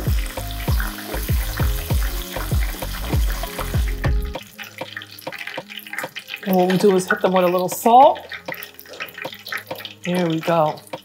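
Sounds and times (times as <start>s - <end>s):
background music with low beat: 0.0s - 11.0s
oil sizzling while deep-frying: 0.0s - 11.0s.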